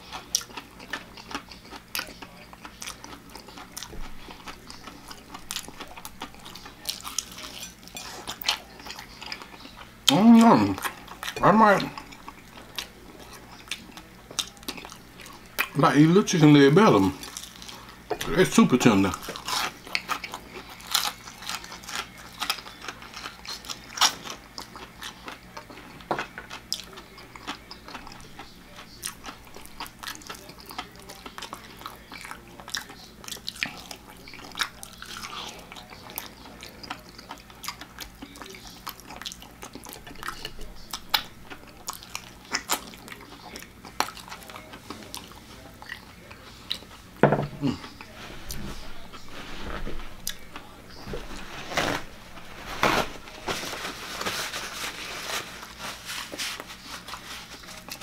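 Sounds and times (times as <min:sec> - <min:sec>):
chewing chicken: 0:00.0 - 0:58.0.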